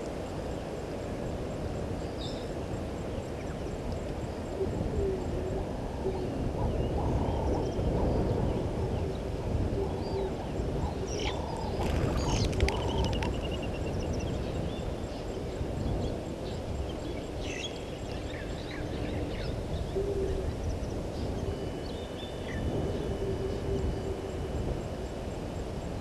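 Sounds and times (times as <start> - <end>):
steady low rumbling noise: 0.0 - 26.0
wild birds calling: 3.3 - 25.2.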